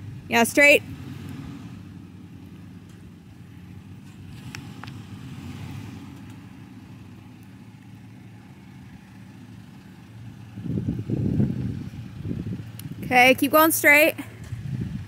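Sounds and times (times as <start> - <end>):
truck engine running at low revs: 0.0 - 15.0.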